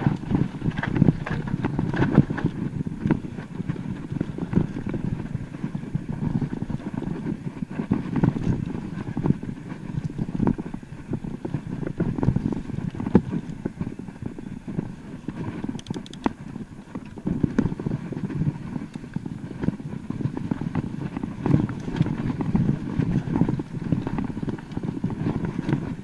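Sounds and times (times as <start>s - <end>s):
bike clattering and rattling: 0.0s - 26.0s
bike tyres rumbling on trail: 0.0s - 26.0s.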